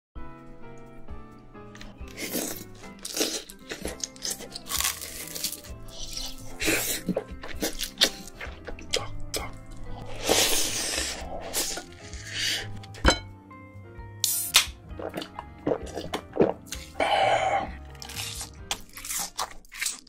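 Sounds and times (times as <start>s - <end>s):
background music: 0.2s - 20.0s
chewing and crunching food: 1.8s - 13.0s, 14.9s - 20.0s.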